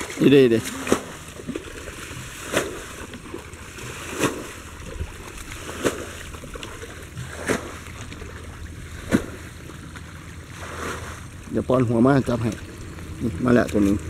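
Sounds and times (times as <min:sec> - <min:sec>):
low steady hum: 0:00.0 - 0:14.0
wading steps splashing in water: 0:00.0 - 0:14.0.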